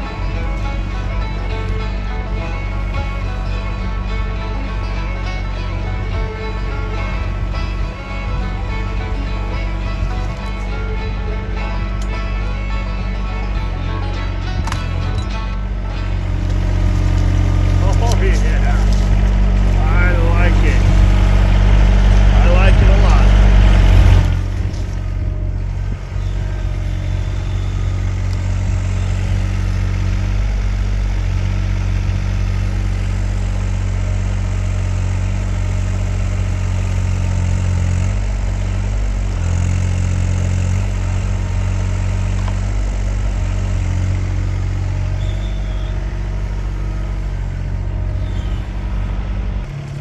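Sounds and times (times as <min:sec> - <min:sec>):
mini-excavator engine running: 0:00.0 - 0:50.0.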